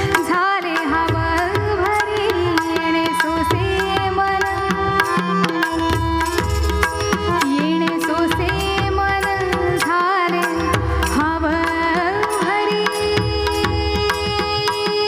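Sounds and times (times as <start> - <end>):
tabla strokes: 0.0 - 15.0.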